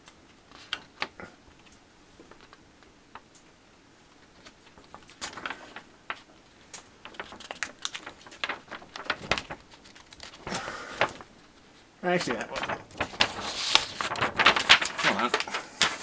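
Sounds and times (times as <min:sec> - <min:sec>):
paper rustling and crinkling: 0:00.4 - 0:03.4, 0:04.0 - 0:16.0.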